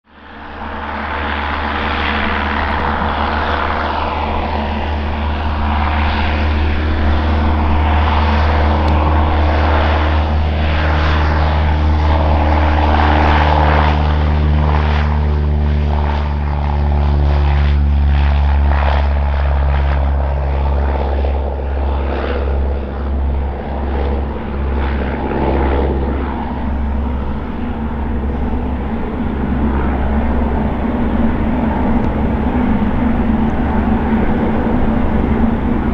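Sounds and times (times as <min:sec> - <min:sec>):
propeller plane engine drone: 0:00.1 - 0:35.9.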